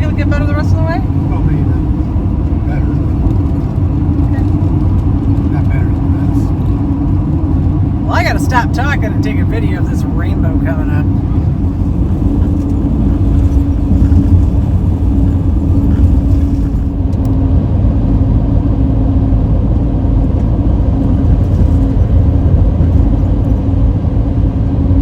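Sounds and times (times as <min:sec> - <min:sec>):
constant hum: 0:00.0 - 0:25.0
engine and road rumble: 0:00.0 - 0:25.0.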